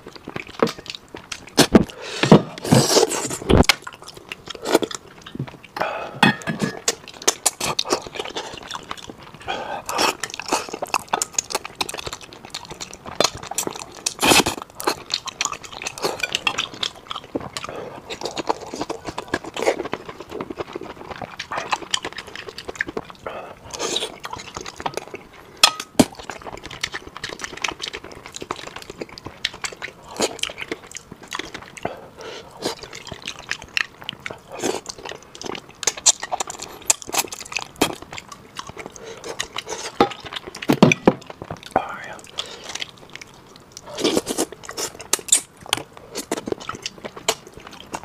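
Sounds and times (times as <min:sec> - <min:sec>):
wet chewing and slurping: 0:00.0 - 0:48.0.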